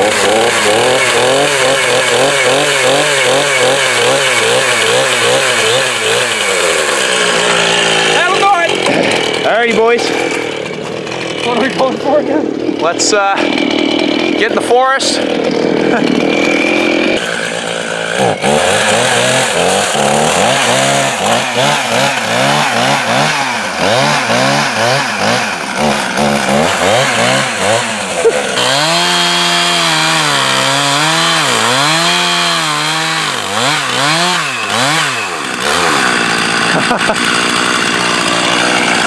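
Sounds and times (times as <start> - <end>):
chainsaw cutting trunk: 0.0 - 39.0.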